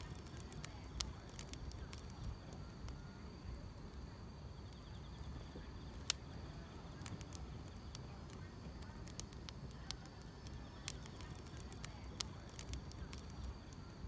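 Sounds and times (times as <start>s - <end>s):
insects trilling: 0.0s - 14.0s
wood fire crackling: 0.0s - 14.0s.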